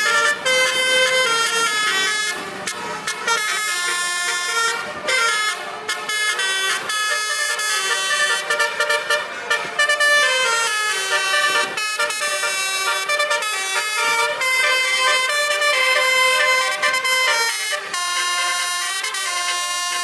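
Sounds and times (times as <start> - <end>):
truck horns playing a melody: 0.0 - 20.0.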